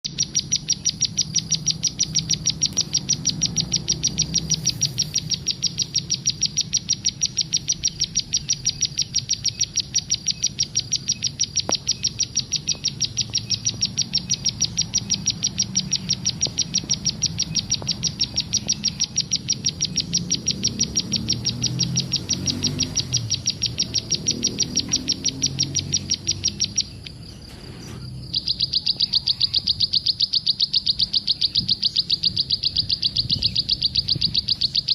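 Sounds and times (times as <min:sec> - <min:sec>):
bird calling high note: 0:00.1 - 0:34.9.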